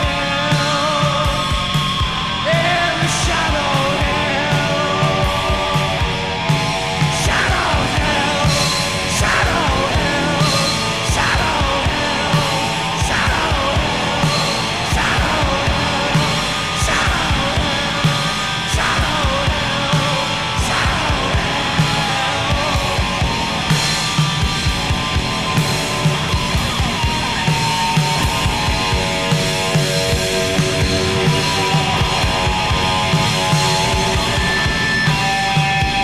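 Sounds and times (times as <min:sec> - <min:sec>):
bass guitar: 0:00.0 - 0:36.0
distorted guitar: 0:00.0 - 0:36.0
heavy drums: 0:00.0 - 0:36.0.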